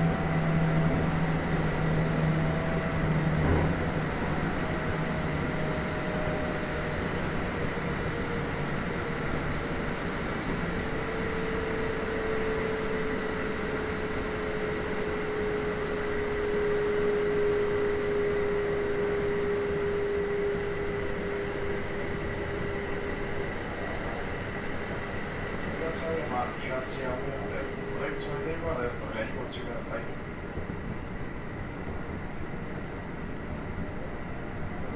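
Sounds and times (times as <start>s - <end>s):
train wheels rumbling on rail: 0.0s - 34.9s.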